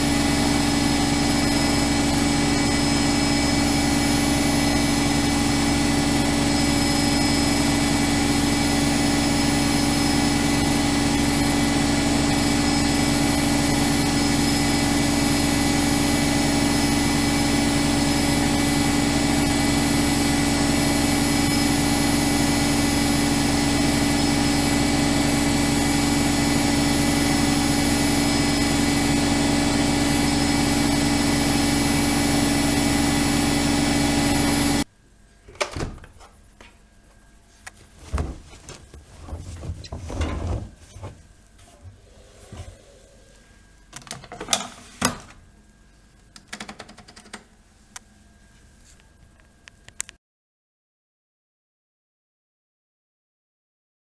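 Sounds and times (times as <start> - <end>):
washing machine motor hum and whine: 0.0 - 50.1.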